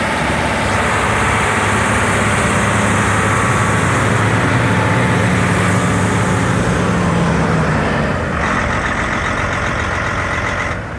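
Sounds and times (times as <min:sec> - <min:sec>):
tractor diesel engine running: 0:00.0 - 0:10.9.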